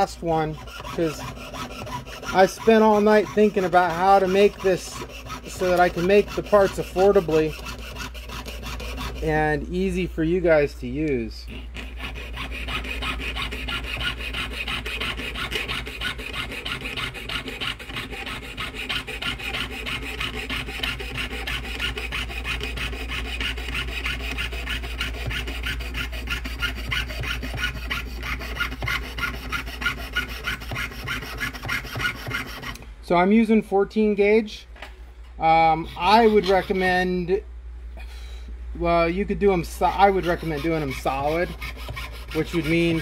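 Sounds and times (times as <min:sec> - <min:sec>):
saw rasping through metal sheet: 0:00.0 - 0:09.6, 0:11.3 - 0:32.8, 0:35.5 - 0:37.1, 0:39.6 - 0:43.0.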